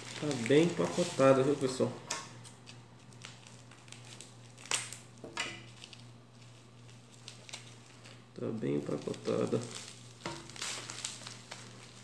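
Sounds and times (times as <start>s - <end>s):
bubble wrap crinkling: 0.0s - 12.0s
bubble wrap sharp crackle: 0.0s - 12.0s.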